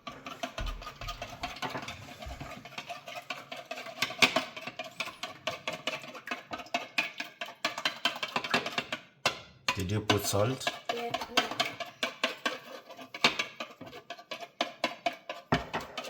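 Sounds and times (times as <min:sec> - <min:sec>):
eggs beaten in a bowl: 0:00.0 - 0:16.0.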